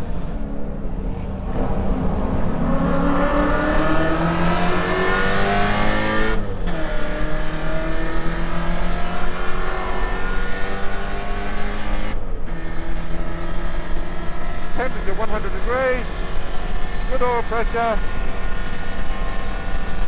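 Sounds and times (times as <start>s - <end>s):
engine revving at full throttle: 1.4s - 20.0s.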